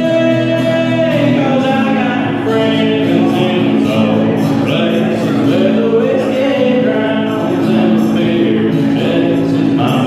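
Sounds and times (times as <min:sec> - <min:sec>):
acoustic guitar: 0:00.0 - 0:10.0
man singing into a microphone: 0:00.0 - 0:10.0.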